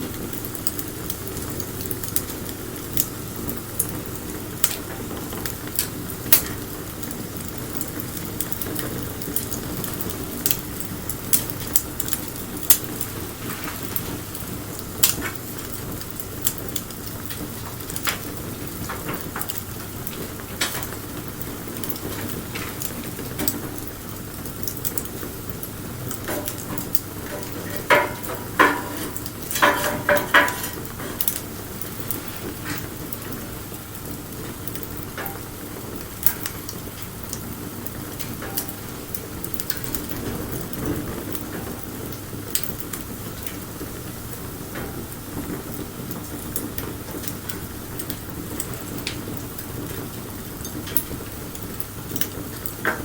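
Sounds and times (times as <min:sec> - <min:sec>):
bonfire hissing and crackling: 0:00.0 - 0:53.0.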